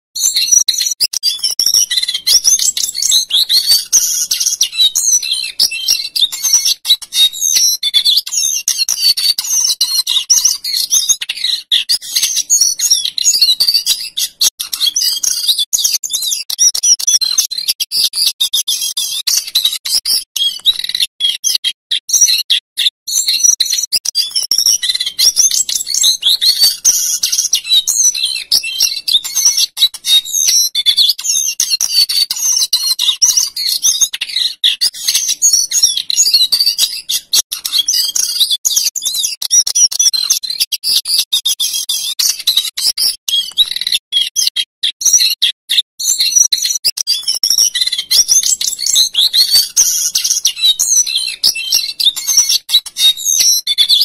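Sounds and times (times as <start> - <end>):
bird singing trills and whistles: 0.2 - 54.0.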